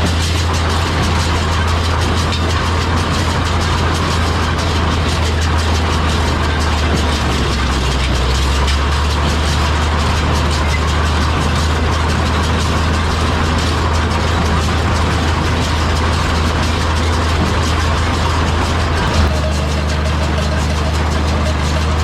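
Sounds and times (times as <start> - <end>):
hay baler working: 0.0 - 22.0
tractor engine running: 0.0 - 22.0.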